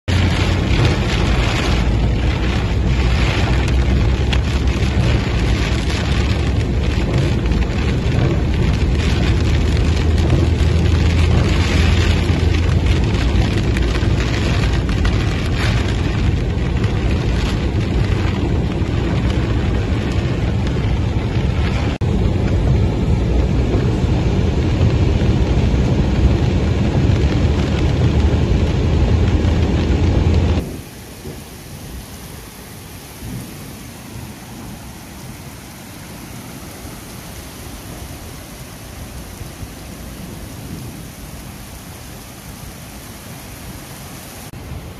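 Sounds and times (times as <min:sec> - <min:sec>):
heavy rain on car roof: 0:00.0 - 0:44.9
tyre and road noise: 0:00.0 - 0:44.9.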